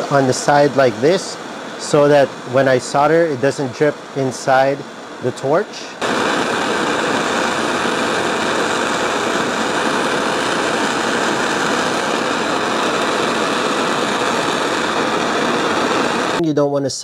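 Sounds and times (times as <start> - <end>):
torch flame hissing: 0.0 - 16.4.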